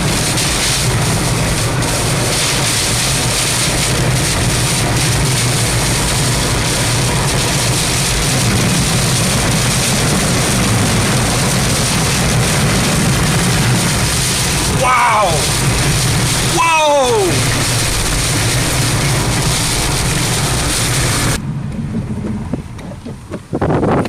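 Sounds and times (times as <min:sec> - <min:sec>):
strong wind and rain: 0:00.0 - 0:21.4.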